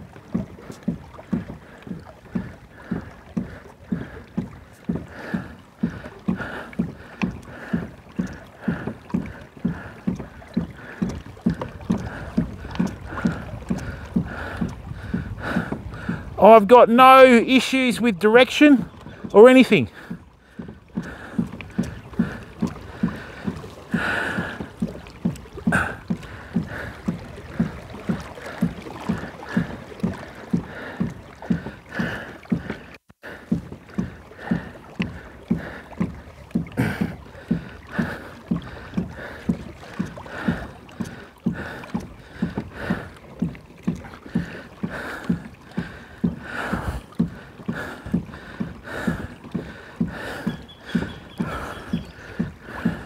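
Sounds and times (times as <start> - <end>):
kayak pedal drive knocking: 0.0 - 53.0.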